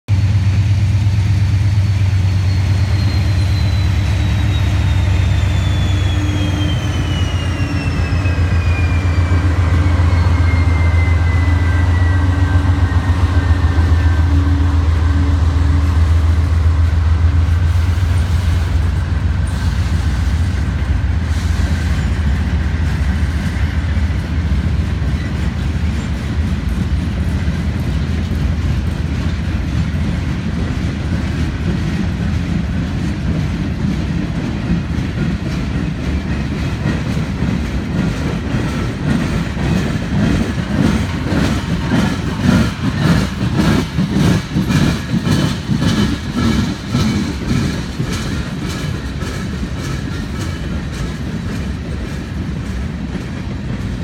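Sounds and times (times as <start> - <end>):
diesel locomotive engine drone: 0.1 - 54.0.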